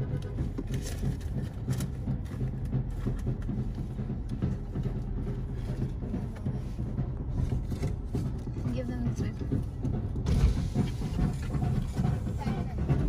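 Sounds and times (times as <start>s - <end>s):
street band drumming: 0.0s - 13.0s.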